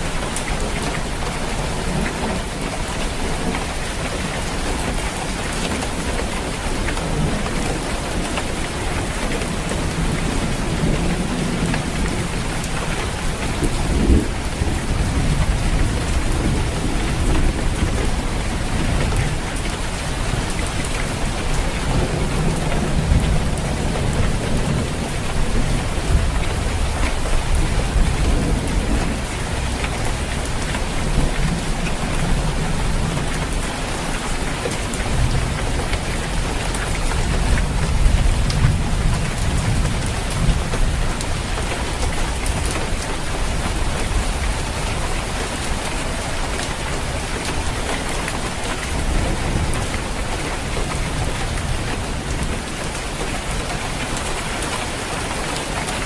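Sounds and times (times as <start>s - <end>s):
rain falling on a roof: 0.0s - 56.0s.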